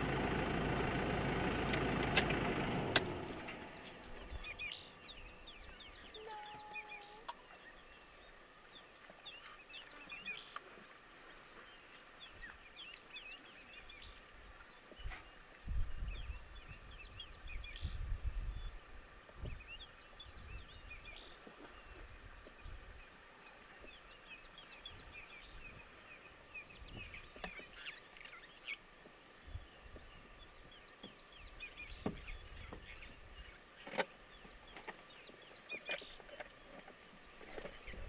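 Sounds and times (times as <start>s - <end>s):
birds chirping: 0.0s - 10.6s, 11.6s - 38.0s.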